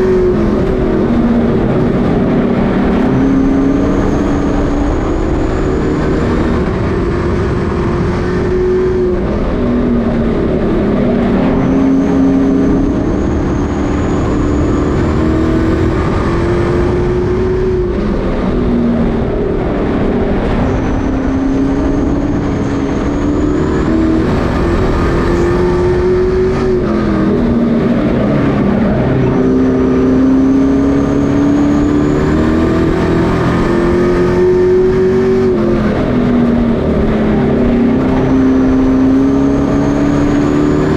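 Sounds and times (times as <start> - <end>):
racing truck engines: 0.0 - 40.9.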